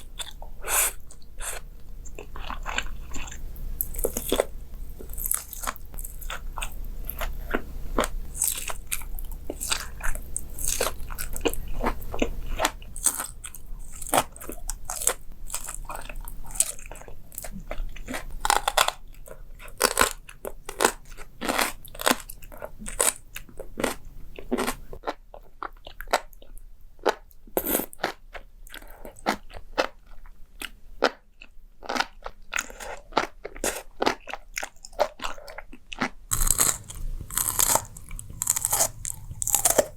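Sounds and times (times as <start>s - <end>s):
crunchy food being chewed: 0.0s - 39.9s.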